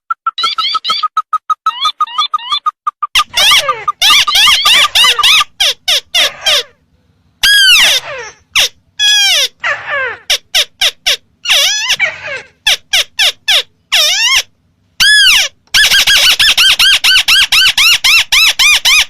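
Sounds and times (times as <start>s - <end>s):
crake calls: 0.0s - 19.0s.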